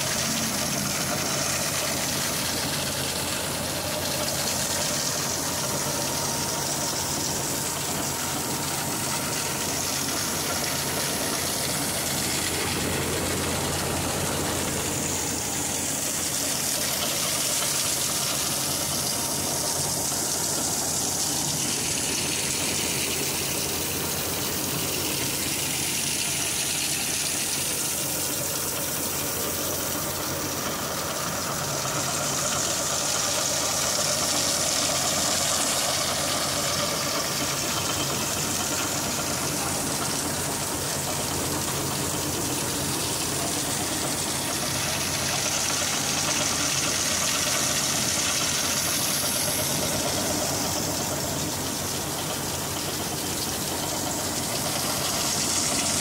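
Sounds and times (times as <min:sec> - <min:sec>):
engine running: 0:00.0 - 0:56.0
grain pouring in a stream: 0:00.0 - 0:56.0.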